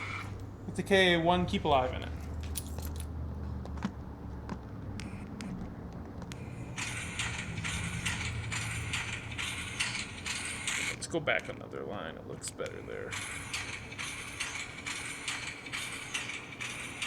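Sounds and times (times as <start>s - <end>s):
steam locomotive exhaust chuffs: 0.0s - 3.6s, 4.8s - 17.0s
scattered clicks: 0.0s - 17.0s.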